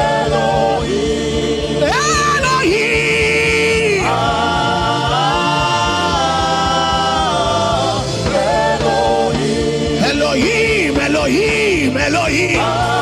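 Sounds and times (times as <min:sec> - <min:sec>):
accompaniment with low beat: 0:00.0 - 0:13.0
person singing gospel: 0:00.0 - 0:13.0.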